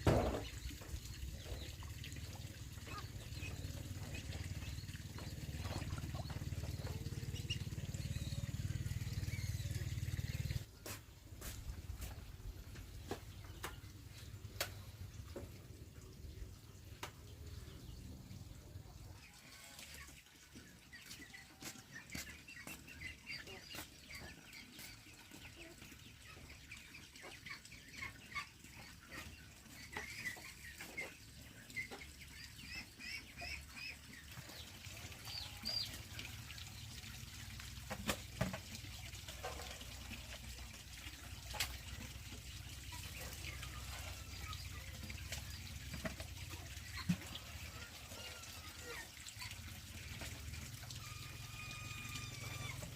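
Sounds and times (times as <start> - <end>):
chickens peeping and clucking: 0.0 - 52.9.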